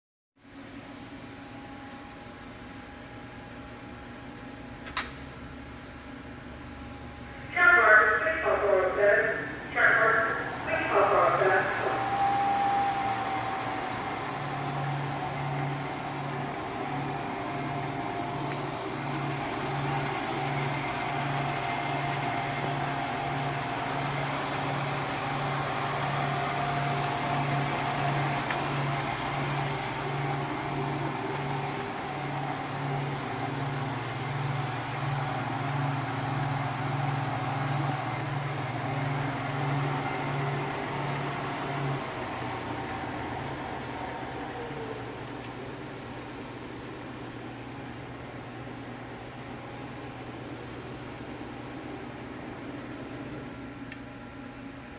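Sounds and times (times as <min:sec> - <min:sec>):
pulsing lathe hum: 0:09.2 - 0:54.0.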